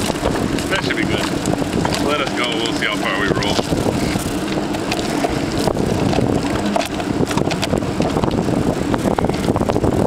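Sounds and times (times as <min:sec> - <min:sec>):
wheels rolling on concrete: 0:00.0 - 0:10.0.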